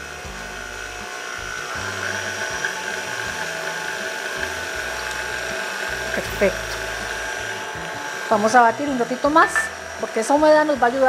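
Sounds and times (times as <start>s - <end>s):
stand mixer motor whine: 0.0s - 11.0s.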